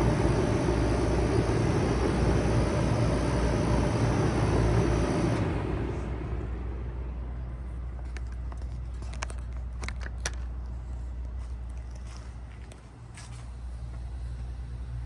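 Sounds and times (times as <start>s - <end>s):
heat pump fan rushing: 0.0s - 15.0s
low steady hum: 0.0s - 15.0s.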